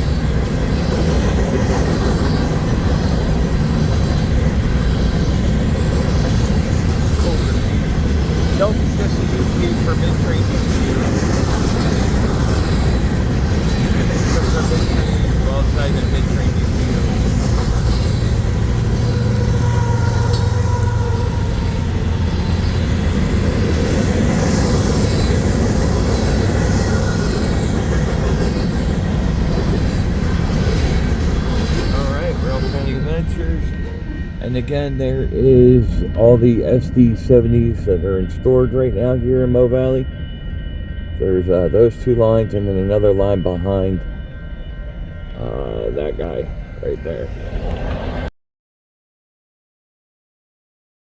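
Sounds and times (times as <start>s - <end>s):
freight train wheels rumbling: 0.0s - 48.3s
strong low hum: 3.4s - 27.9s, 28.6s - 48.3s.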